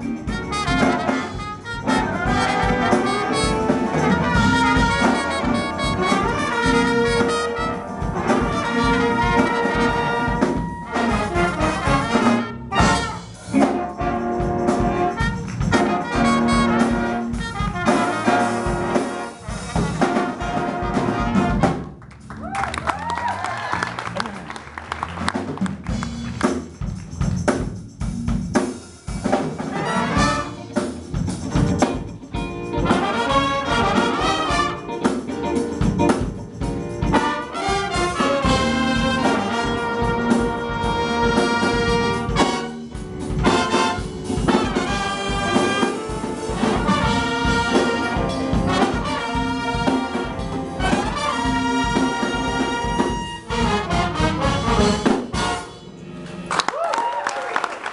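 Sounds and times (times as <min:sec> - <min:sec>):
big band horn sections: 0:00.0 - 0:26.8, 0:28.5 - 0:57.0
drum kit: 0:00.0 - 0:57.2.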